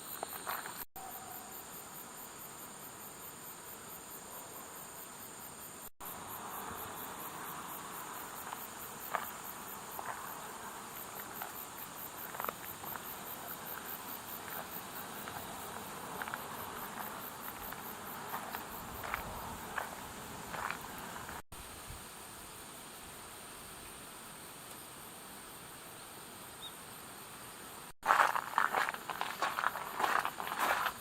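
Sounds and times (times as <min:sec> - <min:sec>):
insects chirring: 0:00.0 - 0:31.0
steady hiss: 0:01.5 - 0:31.0.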